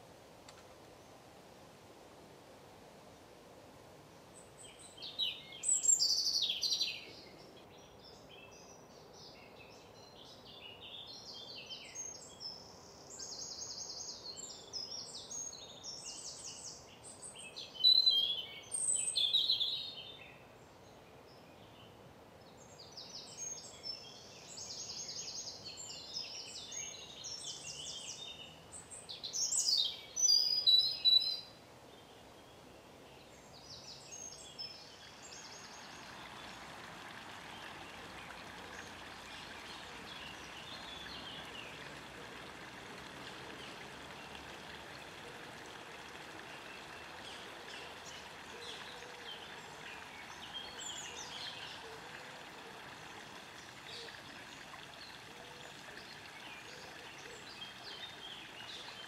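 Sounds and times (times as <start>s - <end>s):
songbirds singing: 4.4s - 59.0s.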